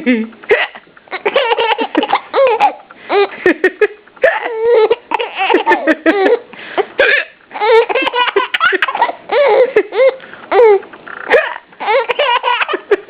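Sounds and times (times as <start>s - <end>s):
baby giggling: 0.0s - 13.0s.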